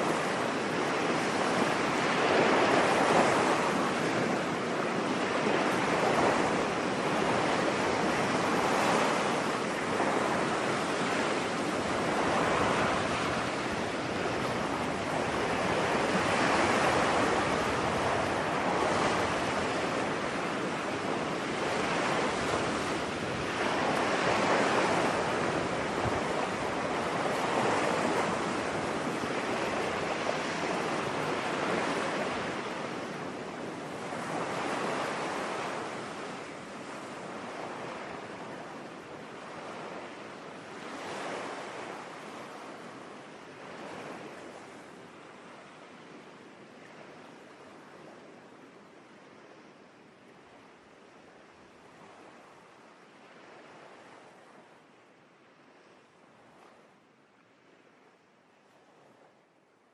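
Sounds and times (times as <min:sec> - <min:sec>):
ocean waves breaking: 0:00.0 - 0:48.4.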